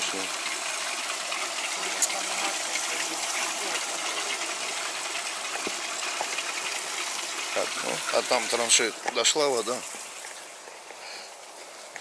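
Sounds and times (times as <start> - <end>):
pump running: 0.0 - 12.0
water gushing from pump outlet: 0.0 - 12.0.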